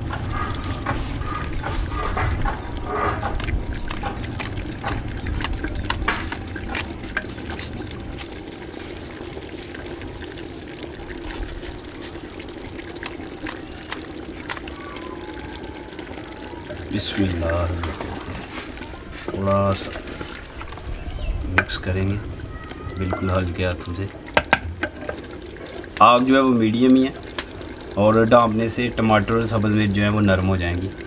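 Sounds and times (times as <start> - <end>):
sharp crackles of fire: 0.0 - 29.6
curry sizzling and bubbling: 0.0 - 31.0.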